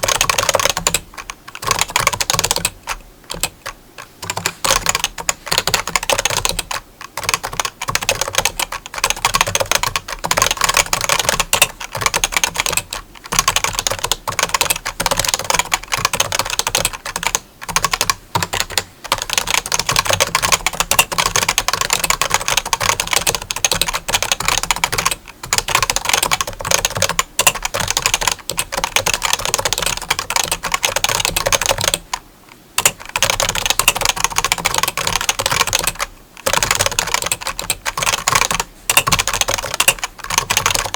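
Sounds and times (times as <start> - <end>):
rapid clicking: 0.0 - 32.2, 32.8 - 40.9.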